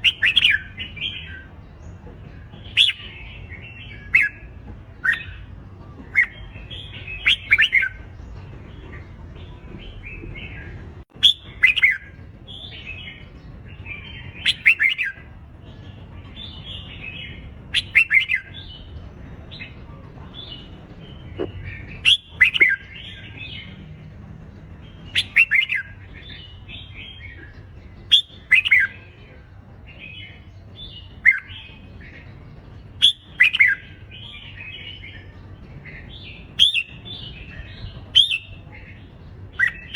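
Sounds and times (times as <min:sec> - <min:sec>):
birds chirping song: 0:00.0 - 0:39.9.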